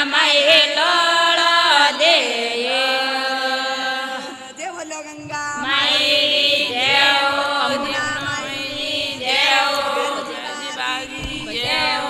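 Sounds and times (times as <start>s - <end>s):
women singing a devotional folk song: 0.0s - 12.0s.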